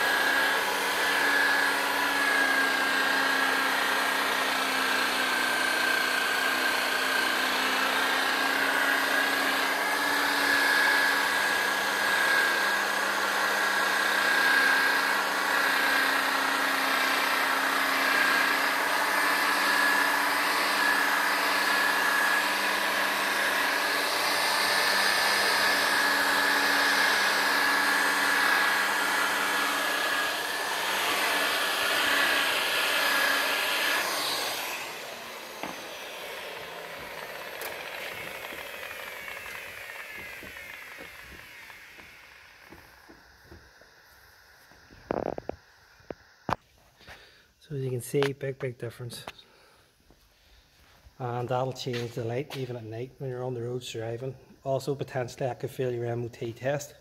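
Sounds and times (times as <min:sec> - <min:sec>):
electric polisher whining: 0:00.0 - 0:47.2, 0:51.7 - 0:53.6.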